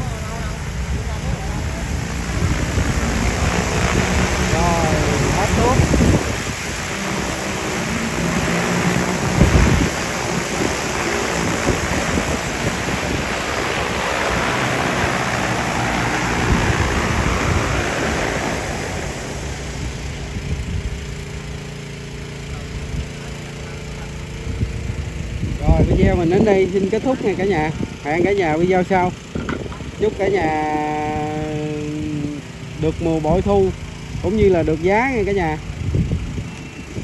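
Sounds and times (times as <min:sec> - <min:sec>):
drone rotors whirring: 0:00.0 - 0:37.0.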